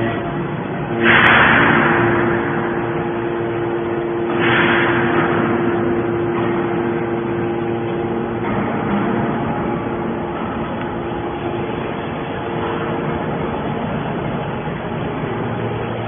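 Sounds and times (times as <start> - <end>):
baler machine hum: 0.0 - 16.0.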